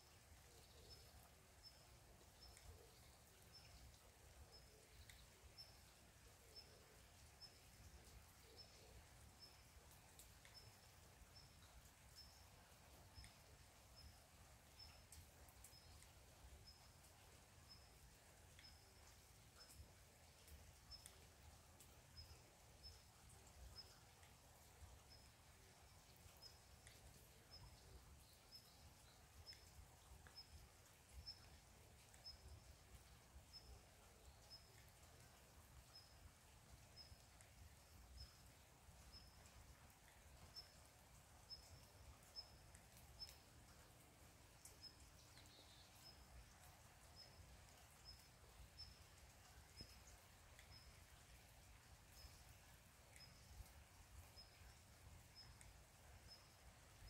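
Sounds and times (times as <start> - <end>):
light rain ticks: 0.0 - 57.0.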